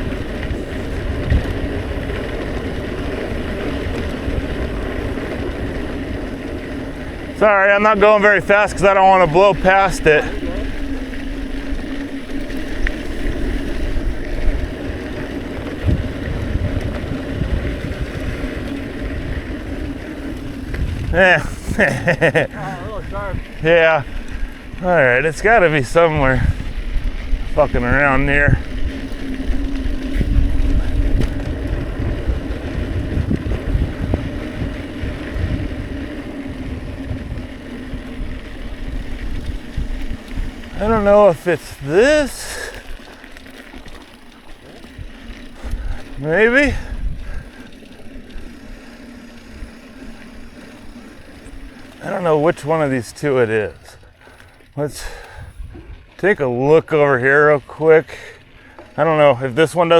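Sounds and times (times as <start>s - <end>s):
wind rushing over microphone: 0.0s - 43.1s, 44.8s - 53.9s, 54.8s - 56.6s
mountain bike rolling on dirt trail: 0.0s - 59.9s.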